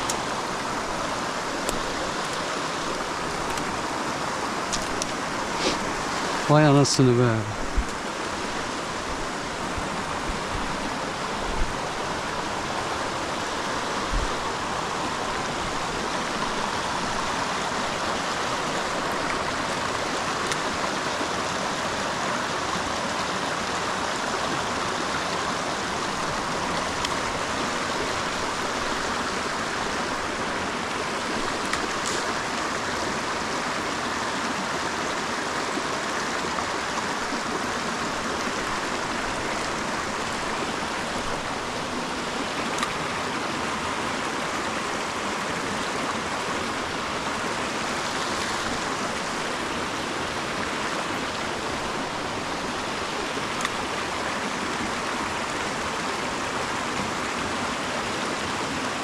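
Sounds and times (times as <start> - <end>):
creek water over rocks: 0.0 - 59.0.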